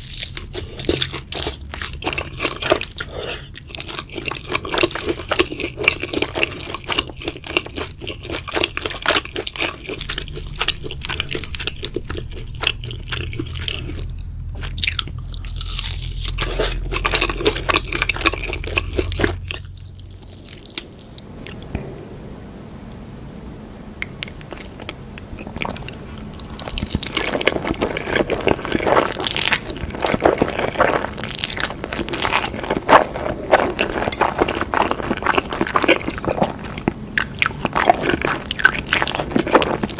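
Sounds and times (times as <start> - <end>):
chewing mouth noises: 0.0 - 21.8, 24.0 - 39.9.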